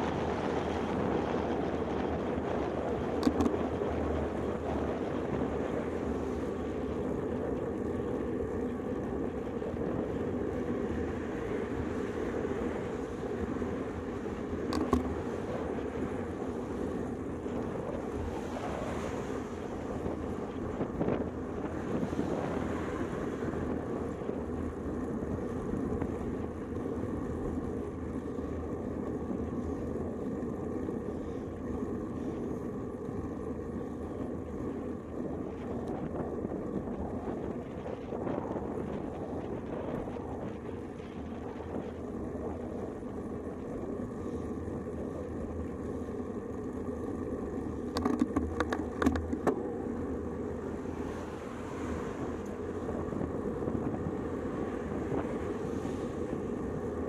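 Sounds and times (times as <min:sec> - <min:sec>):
wind noise on microphone: 0:00.0 - 0:31.2, 0:33.8 - 0:45.4, 0:50.6 - 0:57.0
bicycle road noise: 0:00.0 - 0:57.0
cars passing: 0:00.0 - 0:57.0.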